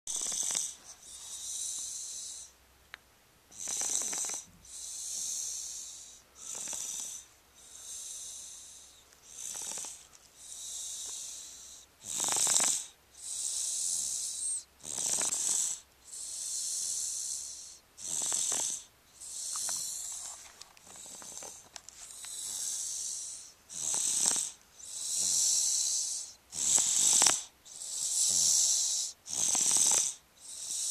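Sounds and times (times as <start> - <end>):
baby snoring: 0.1 - 2.5, 3.5 - 20.2, 20.9 - 21.6, 22.2 - 30.9.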